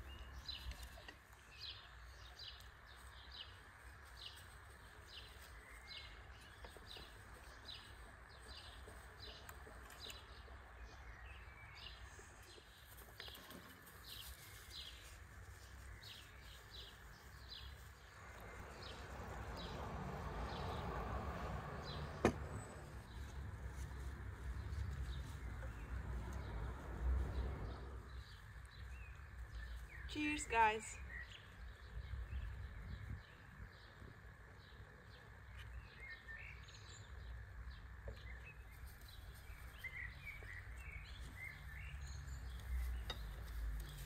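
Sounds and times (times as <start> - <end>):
low outdoor background: 0.0 - 44.0.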